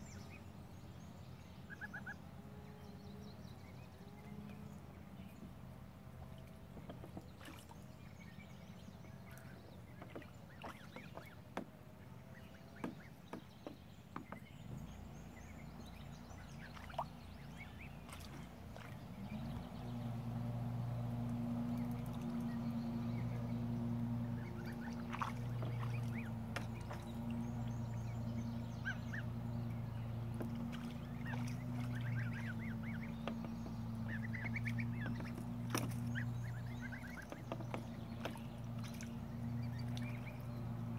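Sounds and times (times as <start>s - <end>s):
low motor hum: 0.0s - 40.9s
geese splashing in water: 0.1s - 40.9s.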